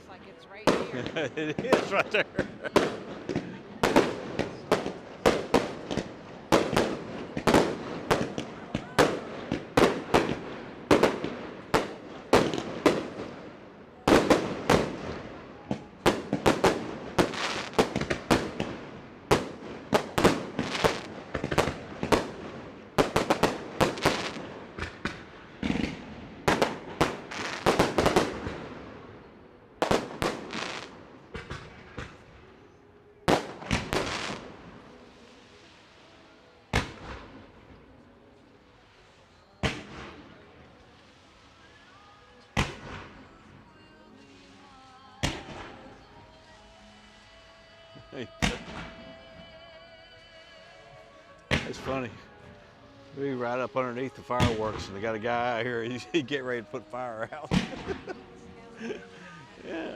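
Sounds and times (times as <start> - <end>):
fireworks bangs and crackles: 0.6 - 32.6, 33.3 - 38.0, 38.8 - 43.6, 44.3 - 46.1, 48.2 - 49.5, 51.5 - 52.2, 53.0 - 59.9.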